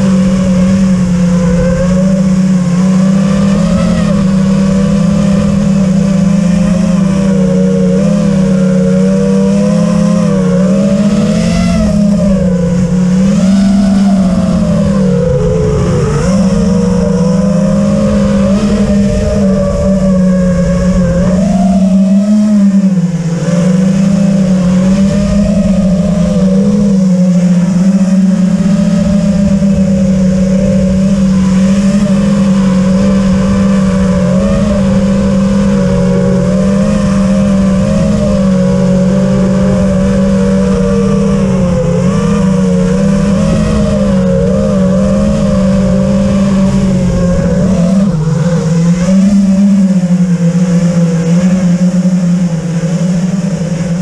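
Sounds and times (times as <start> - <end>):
quadcopter motors buzzing: 0.0 - 54.0.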